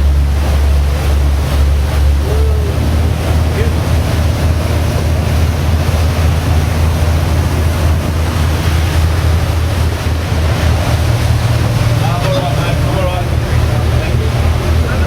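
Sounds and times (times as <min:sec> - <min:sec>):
boat engine humming: 0:00.0 - 0:15.0
water rushing: 0:00.0 - 0:15.0
wind on microphone: 0:00.0 - 0:15.0.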